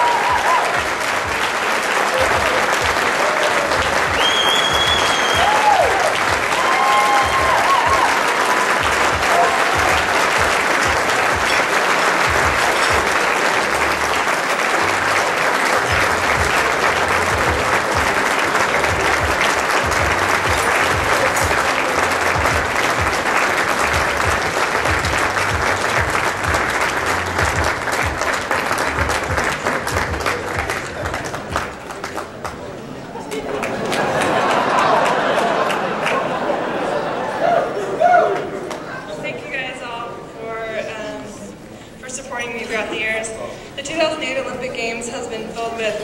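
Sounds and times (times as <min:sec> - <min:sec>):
audience applauding: 0:00.0 - 0:40.3.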